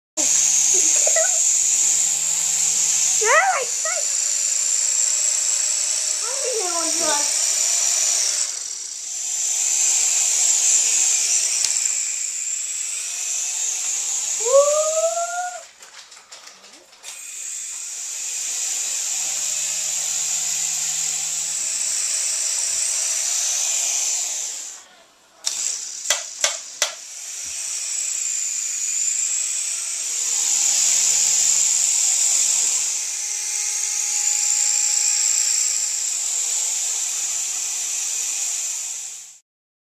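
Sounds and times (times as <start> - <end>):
toy helicopter motor whine: 0.2 - 24.8, 25.4 - 39.4.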